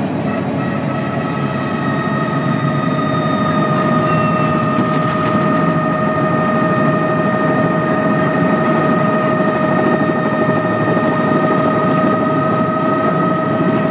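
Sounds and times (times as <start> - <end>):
helicopter running: 0.0 - 13.9.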